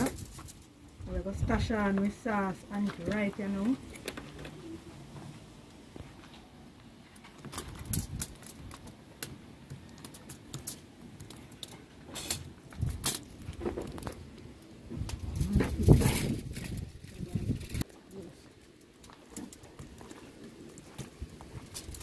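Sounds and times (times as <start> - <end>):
aluminium foil crinkling: 0.0 - 4.7, 7.0 - 22.0.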